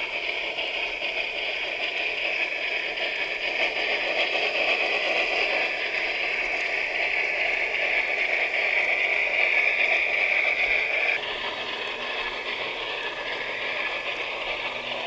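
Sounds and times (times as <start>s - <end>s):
steam locomotive hiss: 0.0s - 15.0s.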